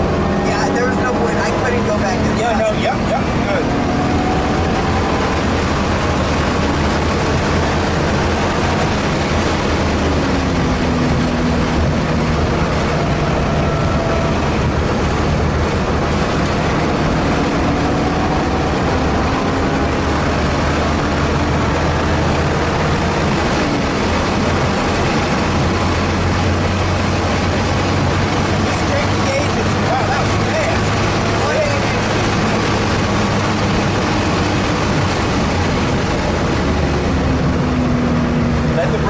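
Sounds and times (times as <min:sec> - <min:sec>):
car engine at speed: 0:00.0 - 0:39.0.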